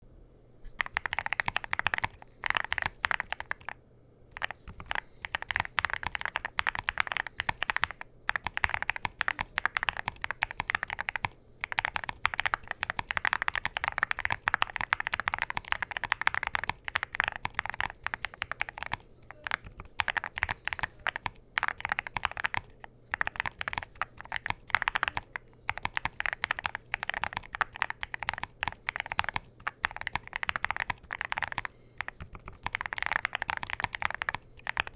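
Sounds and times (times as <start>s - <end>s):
typing on mechanical keyboard: 0.8s - 34.9s.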